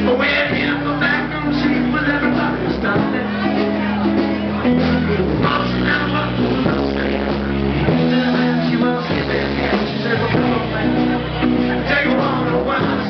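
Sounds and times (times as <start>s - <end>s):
live band through pa: 0.0s - 13.0s.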